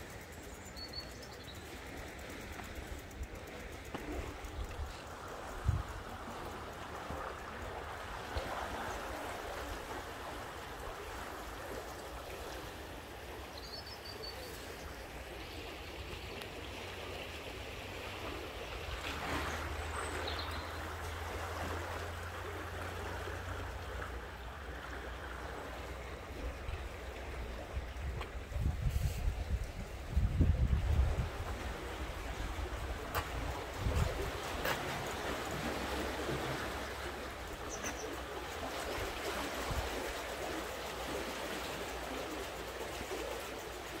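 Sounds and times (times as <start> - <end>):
river water rushing: 3.7 - 29.2, 30.9 - 44.0.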